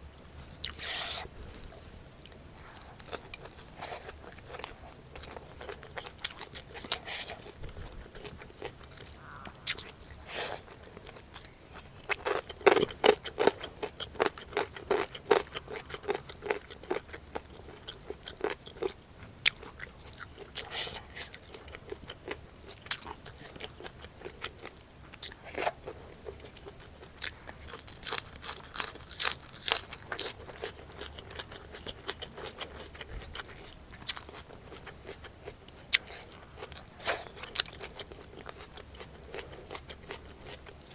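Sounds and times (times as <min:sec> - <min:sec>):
crunching food: 0:00.6 - 0:40.9.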